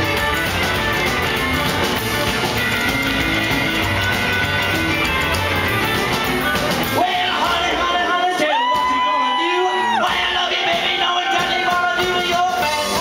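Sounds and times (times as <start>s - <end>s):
drums: 0.0s - 13.0s
rockabilly band playing: 0.0s - 13.0s
stage piano: 0.0s - 13.0s.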